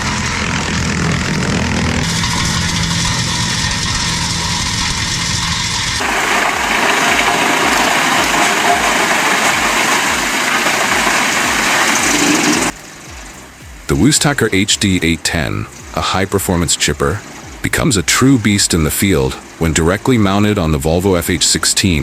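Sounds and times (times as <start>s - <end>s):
loud machine sound: 0.0s - 21.0s
heavy machinery engine running: 0.0s - 22.0s.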